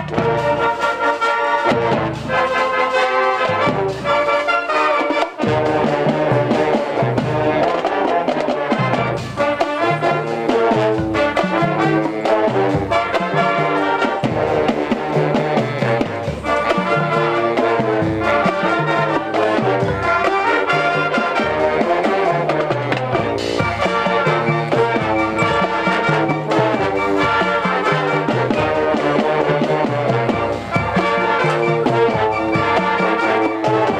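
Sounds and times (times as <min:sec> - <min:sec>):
marching band playing: 0:00.0 - 0:33.9.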